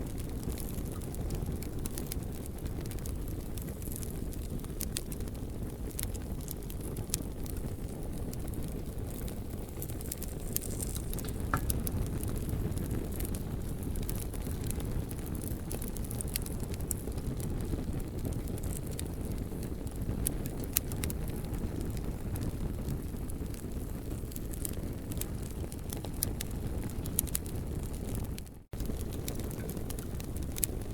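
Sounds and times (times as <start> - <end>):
campfire wood crackling: 0.0 - 30.9.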